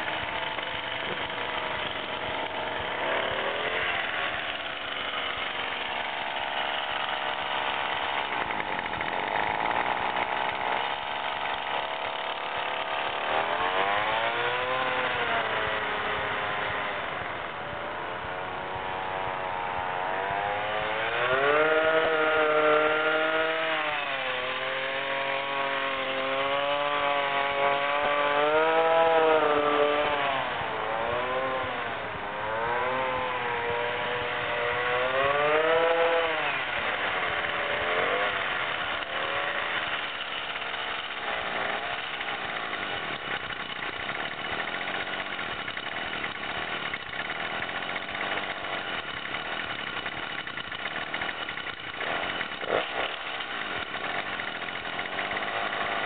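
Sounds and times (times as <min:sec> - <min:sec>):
toy truck motor revving: 0:00.0 - 0:17.6, 0:18.7 - 0:56.0.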